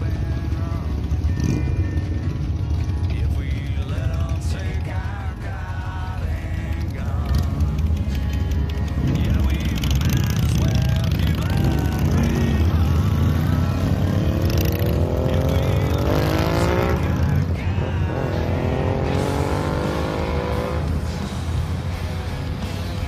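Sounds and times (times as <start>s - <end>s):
motorcycles pulling away: 0.0s - 23.0s.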